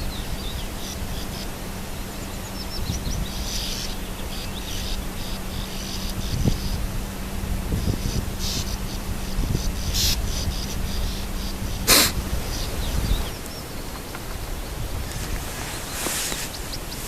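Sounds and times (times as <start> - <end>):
faint bird calls: 0.0 - 17.0
low hum: 0.0 - 17.0
wind rumble on microphone: 0.0 - 17.0.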